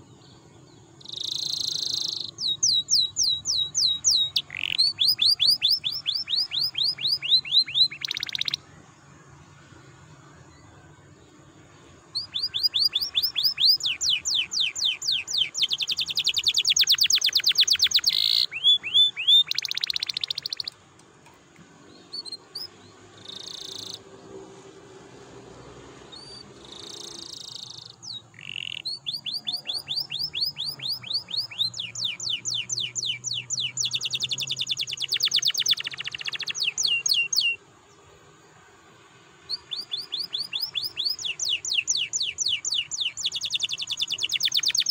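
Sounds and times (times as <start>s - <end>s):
canary singing trills: 0.0s - 20.8s, 21.8s - 24.4s, 25.0s - 38.0s, 39.4s - 44.9s.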